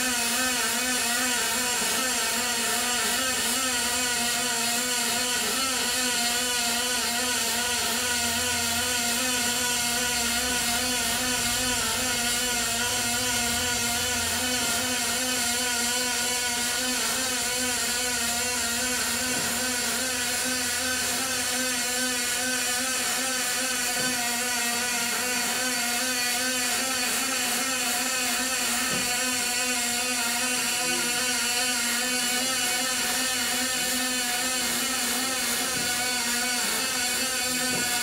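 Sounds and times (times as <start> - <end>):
welding arc buzz and hiss: 0.0 - 38.0.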